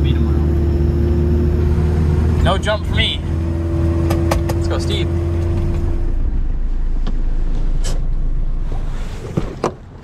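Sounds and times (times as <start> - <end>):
van engine and road noise: 0.0 - 10.0.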